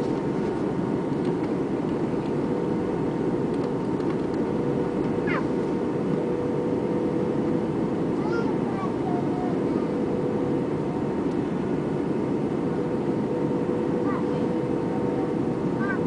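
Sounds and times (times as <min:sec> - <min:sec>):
airliner cabin engine rush: 0:00.0 - 0:16.0.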